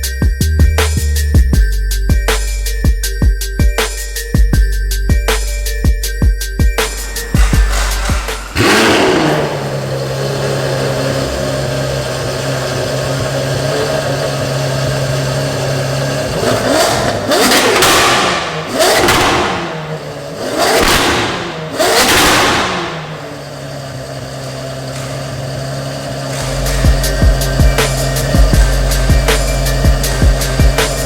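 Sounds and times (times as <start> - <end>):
loud car engine idling and revving: 0.0 - 31.0.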